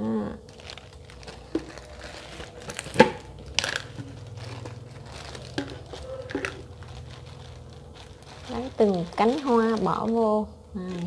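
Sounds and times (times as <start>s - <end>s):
plastic jar lid crinkling and clicking: 0.4s - 10.1s.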